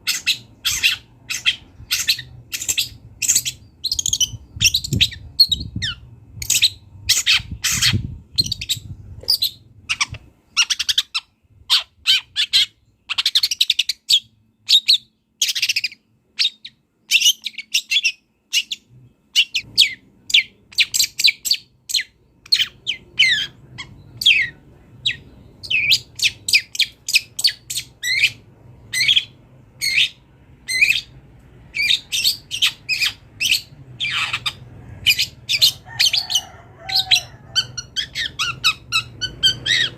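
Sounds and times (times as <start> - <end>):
bird singing fast chirps: 0.0 - 36.2, 37.6 - 39.9.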